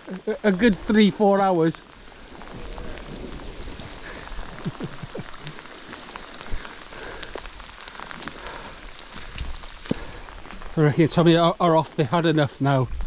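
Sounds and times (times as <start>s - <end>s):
rain falling: 0.0s - 13.0s
raindrop ticks: 0.0s - 13.0s.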